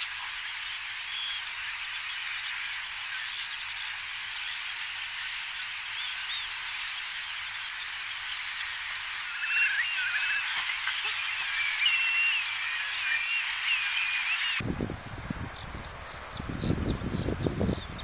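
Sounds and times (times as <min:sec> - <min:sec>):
loud clear bird calls: 0:00.0 - 0:14.6
chorus of birds chirping: 0:00.0 - 0:18.0.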